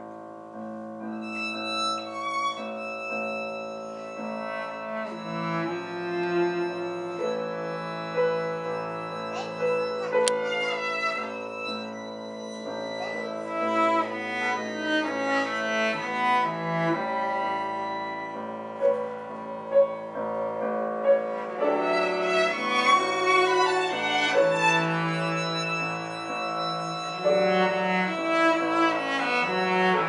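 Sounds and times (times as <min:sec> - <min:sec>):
cello: 0:00.0 - 0:30.0
piano: 0:00.0 - 0:30.0
violin: 0:00.0 - 0:30.0.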